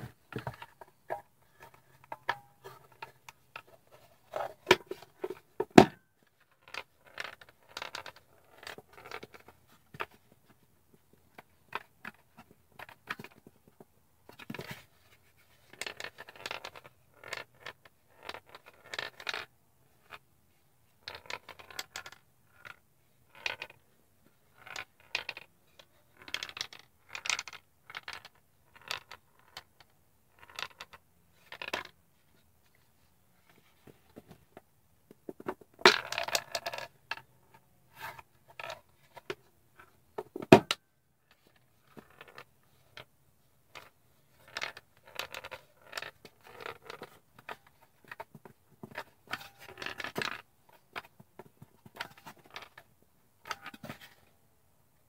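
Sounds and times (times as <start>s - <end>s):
ball rattling in wooden maze: 0.0s - 10.6s, 11.2s - 20.2s, 21.0s - 23.8s, 24.5s - 32.8s, 33.4s - 37.4s, 38.0s - 43.1s, 43.7s - 54.3s.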